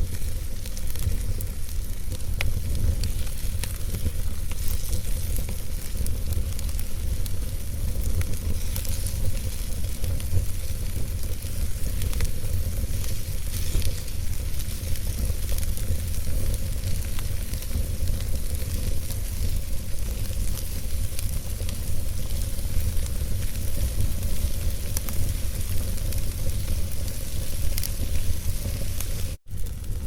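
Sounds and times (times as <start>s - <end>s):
burning logs crackling and popping: 0.0s - 30.0s
wood fire rumbling and hissing: 0.0s - 30.0s.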